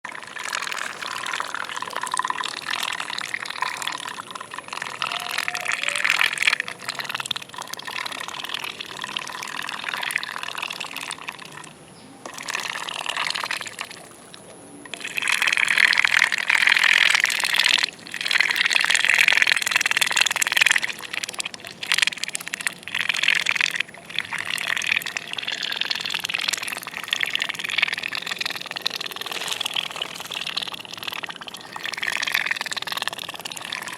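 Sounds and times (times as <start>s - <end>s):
ducks dabbling in water: 0.0s - 33.9s.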